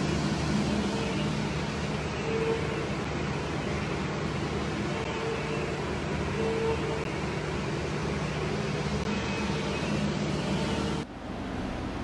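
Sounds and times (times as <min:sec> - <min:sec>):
milling machine hum and whine: 0:00.0 - 0:12.0.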